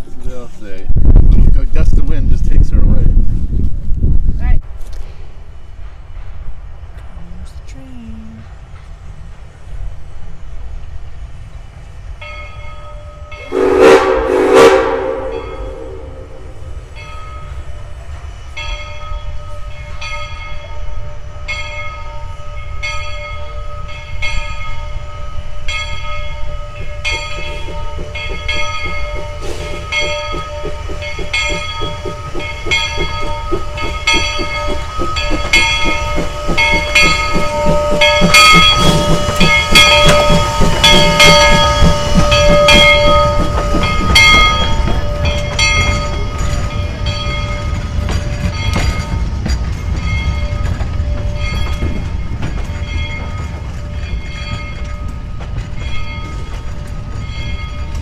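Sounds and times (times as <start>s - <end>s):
steam locomotive exhaust beats: 11.5s - 58.0s.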